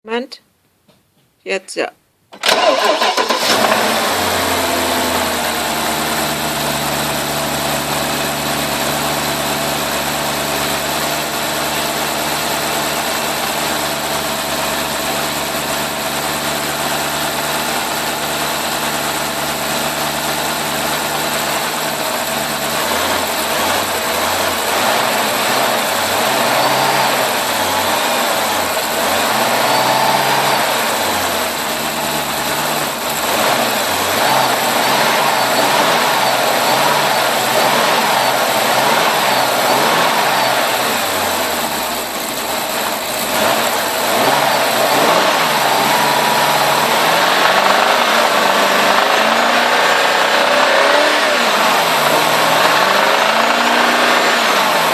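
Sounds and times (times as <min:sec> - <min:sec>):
car engine idling: 0:02.4 - 0:54.9.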